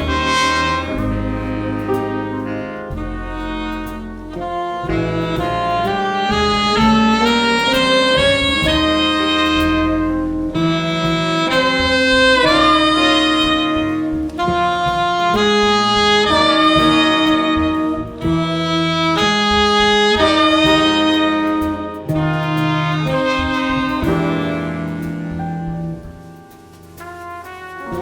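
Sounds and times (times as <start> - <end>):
jazz horn section playing: 0.0 - 28.0.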